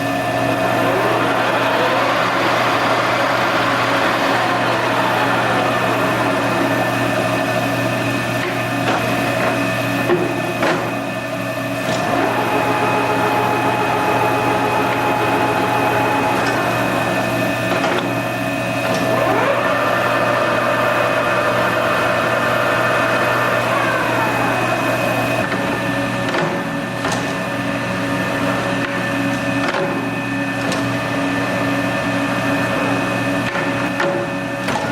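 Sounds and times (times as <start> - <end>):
lathe gearing whine: 0.0 - 34.9.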